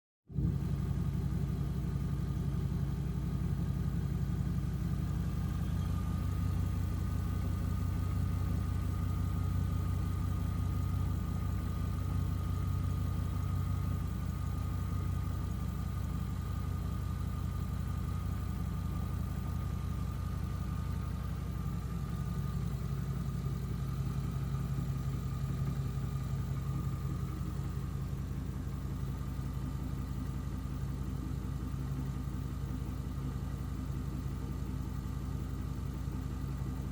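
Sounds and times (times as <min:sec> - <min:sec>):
car engine idling: 0:00.3 - 0:36.9.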